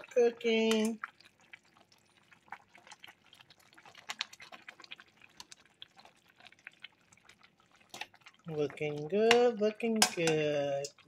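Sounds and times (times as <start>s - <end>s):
pot bubbling and popping: 0.0s - 11.0s.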